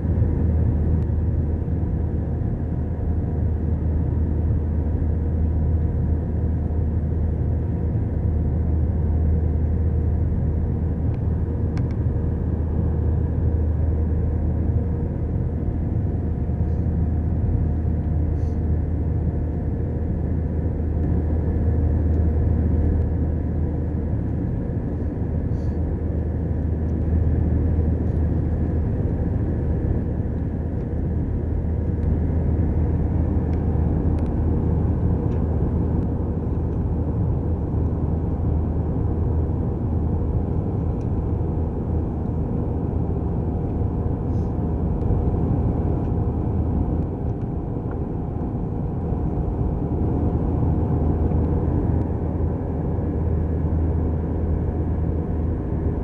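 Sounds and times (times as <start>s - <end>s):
faint humming tones: 0.0s - 56.0s
jet engine rumble in cabin: 0.0s - 56.0s.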